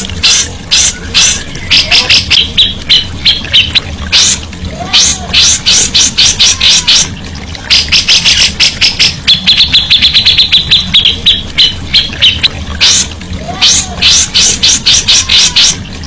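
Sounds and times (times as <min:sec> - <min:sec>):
songbird singing: 0:00.4 - 0:04.4, 0:05.0 - 0:15.8.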